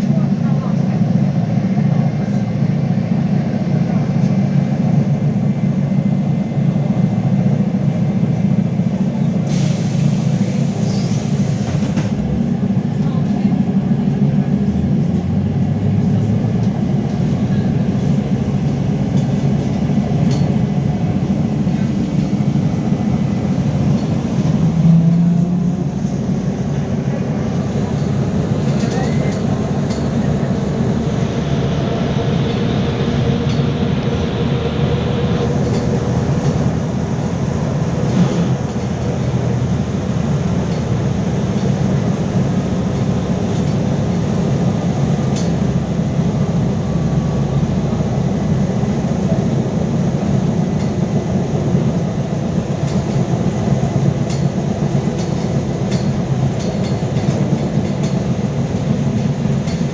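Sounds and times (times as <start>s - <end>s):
low rumble of tyres: 0.0s - 59.9s.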